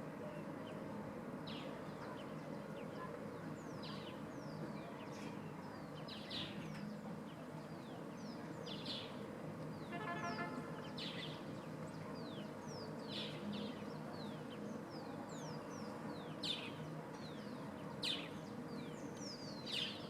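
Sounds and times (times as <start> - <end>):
low outdoor noise: 0.0 - 20.0
small birds chirping: 1.5 - 20.0.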